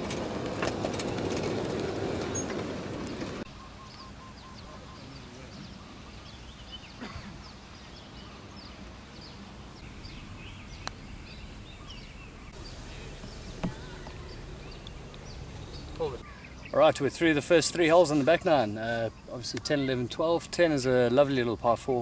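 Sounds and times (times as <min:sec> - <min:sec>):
small birds chirping: 0:01.1 - 0:22.0.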